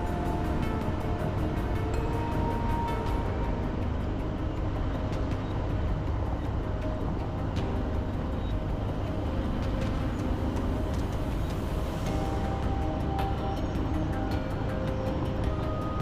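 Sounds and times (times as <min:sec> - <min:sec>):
faint music: 0:00.0 - 0:16.0
vehicle rumbling on road: 0:00.0 - 0:16.0.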